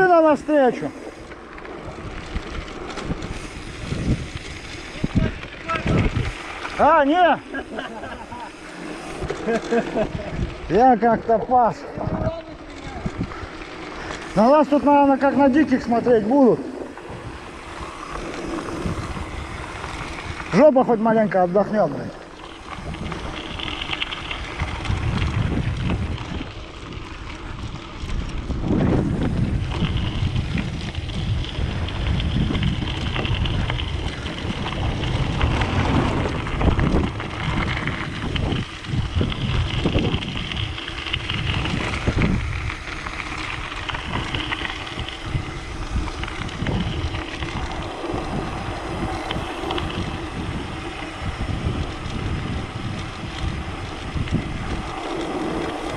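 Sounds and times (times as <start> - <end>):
bike rolling on dirt road: 0.0 - 55.9
wind buffeting microphone: 0.0 - 55.9.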